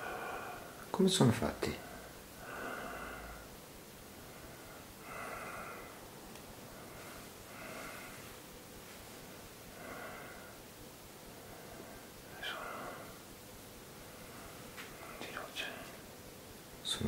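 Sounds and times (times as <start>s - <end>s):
man breathing slowly: 0.0s - 0.9s, 1.8s - 16.1s
faint room hiss: 0.0s - 17.0s.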